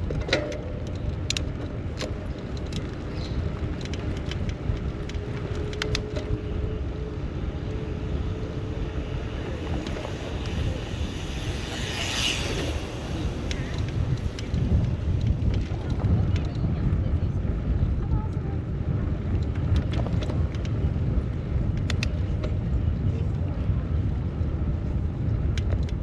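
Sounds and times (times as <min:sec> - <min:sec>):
road traffic rumble: 0:00.0 - 0:26.0
wind on microphone: 0:00.0 - 0:26.0.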